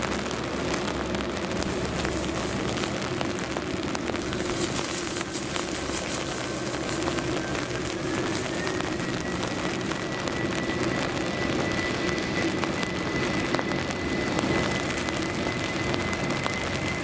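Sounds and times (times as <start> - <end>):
heavy rain hissing: 0.0 - 17.0
jet engines rumbling and whining: 0.0 - 17.0.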